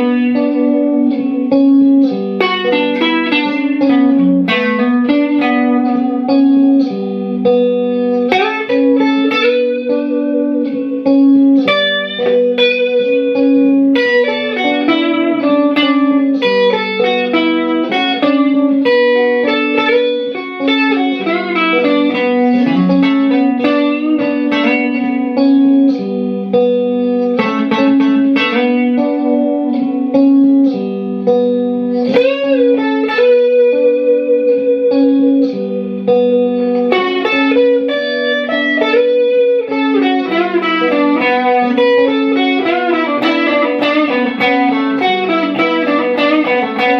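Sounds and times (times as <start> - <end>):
electric guitar playing: 0.0 - 46.9.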